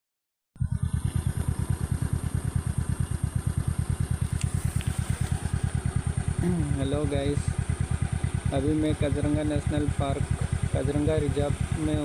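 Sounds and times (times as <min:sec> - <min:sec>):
engine idling: 0:00.6 - 0:12.0.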